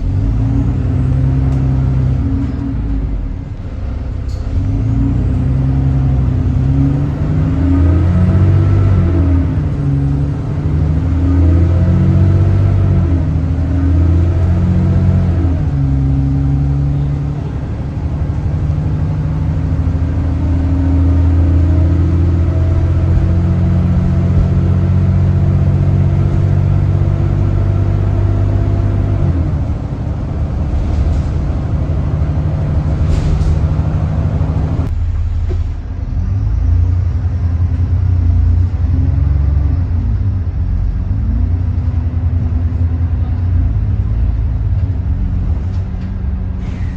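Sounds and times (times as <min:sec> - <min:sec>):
diesel bus engine accelerating: 0:00.0 - 0:46.9.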